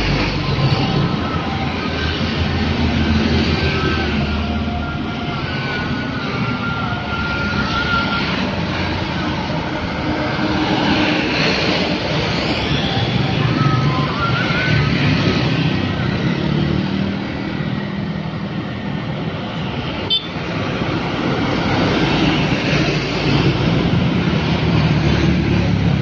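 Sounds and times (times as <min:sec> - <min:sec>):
motorbikes passing: 0:00.0 - 0:26.0
road traffic passing: 0:00.0 - 0:26.0.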